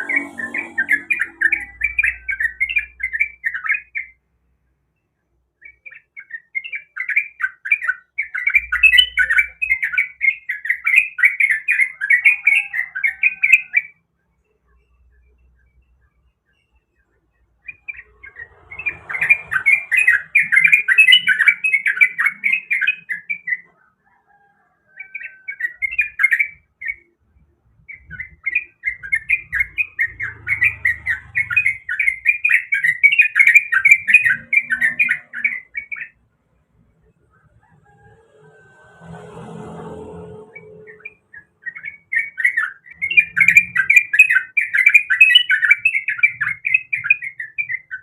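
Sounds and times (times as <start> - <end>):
bird chattering song: 0.0 - 4.2, 5.0 - 24.0, 25.0 - 36.2, 40.5 - 48.0.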